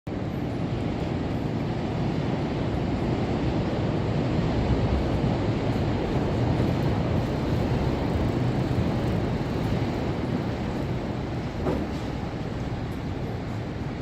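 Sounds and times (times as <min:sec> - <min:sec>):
city hum: 0:00.1 - 0:14.0.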